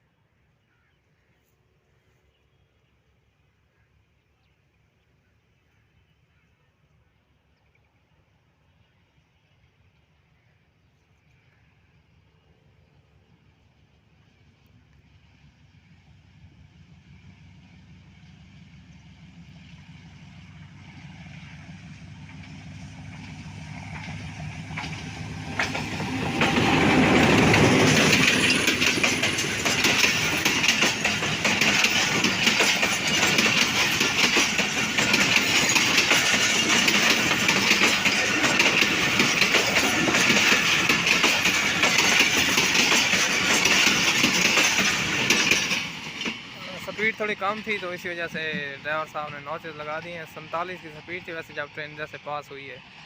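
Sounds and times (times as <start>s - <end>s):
train passing with wheel clatter: 6.8s - 53.0s.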